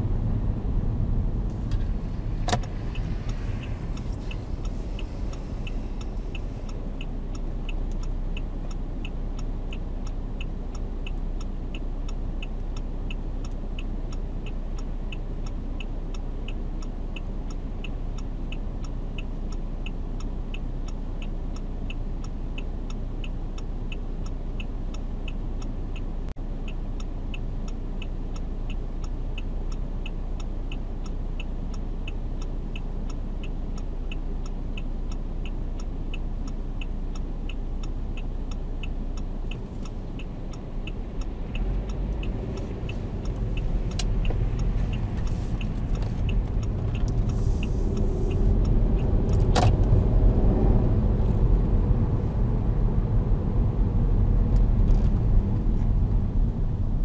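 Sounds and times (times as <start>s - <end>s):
car engine: 0.0s - 57.0s
road noise: 0.0s - 57.0s
turn signal ticking: 0.0s - 57.0s.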